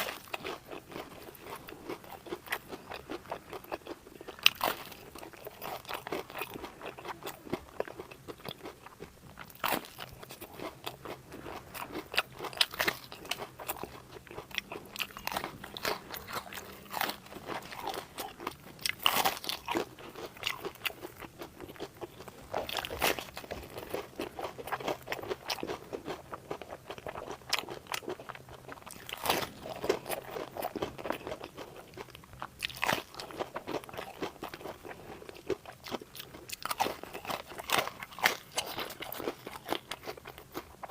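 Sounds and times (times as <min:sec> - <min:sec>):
crunchy food being chewed: 0:00.0 - 0:40.9.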